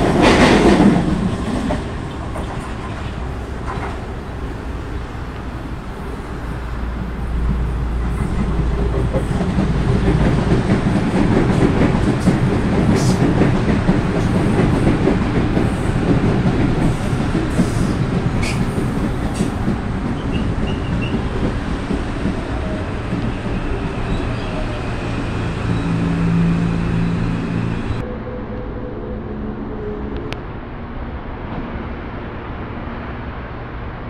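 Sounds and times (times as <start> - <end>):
train wheels rumbling on rail: 0.0 - 28.1.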